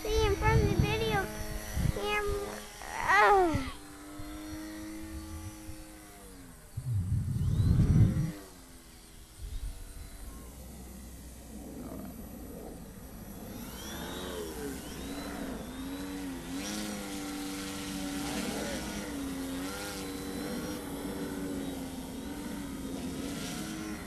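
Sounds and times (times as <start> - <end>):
electric motor whine: 0.0 - 24.0
model plane propeller tone: 0.0 - 24.0.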